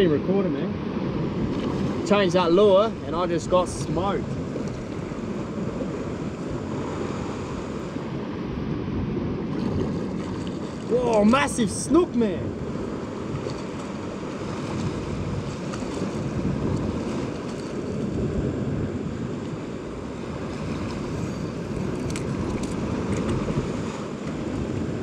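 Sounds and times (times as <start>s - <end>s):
ocean surf against rocks: 0.0s - 25.0s
wind buffeting microphone: 0.0s - 25.0s.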